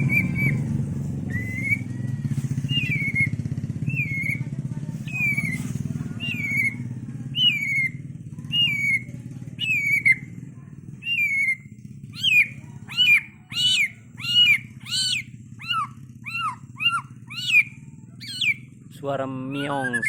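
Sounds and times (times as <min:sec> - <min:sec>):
animal meowing: 0:00.0 - 0:10.3, 0:11.0 - 0:18.7, 0:19.4 - 0:20.0
steady low hum: 0:00.0 - 0:19.0.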